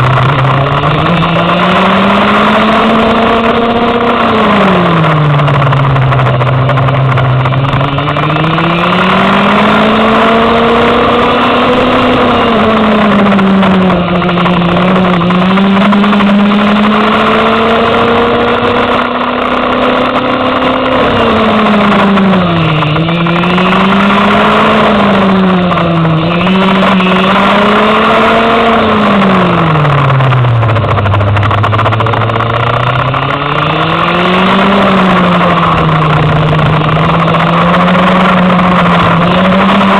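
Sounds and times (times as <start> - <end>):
go-kart engine at race pace: 0.0 - 39.9.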